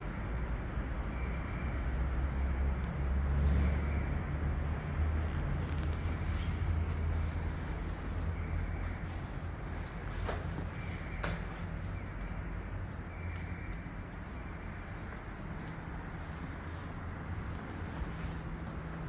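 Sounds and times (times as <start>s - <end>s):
engine rumbling: 0.0s - 19.0s.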